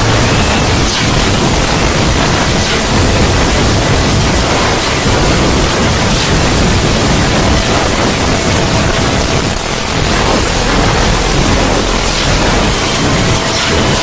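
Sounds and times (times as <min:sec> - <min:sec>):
loud steady noise wash: 0:00.0 - 0:14.0.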